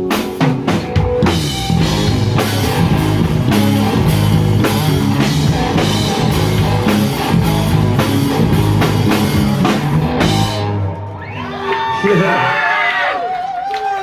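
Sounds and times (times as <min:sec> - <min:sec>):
rock band playing live: 0:00.0 - 0:12.9.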